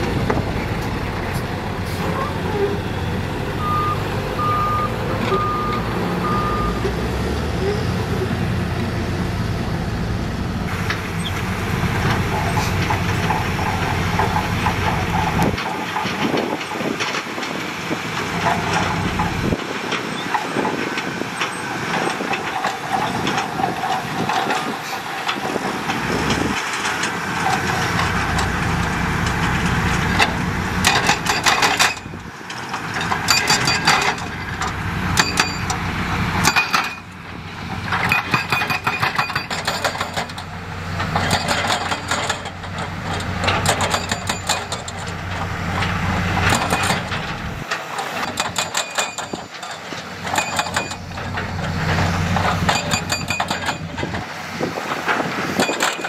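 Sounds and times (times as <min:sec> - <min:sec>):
machinery knocks and clanks: 0:00.0 - 0:03.8, 0:10.7 - 0:56.0
diesel engine running: 0:00.0 - 0:56.0.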